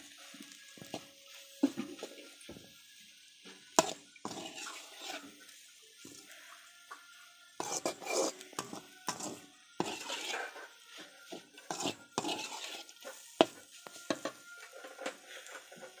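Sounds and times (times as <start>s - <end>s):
spatula scraping a pan: 0.0s - 2.4s, 3.7s - 6.4s, 7.6s - 16.0s.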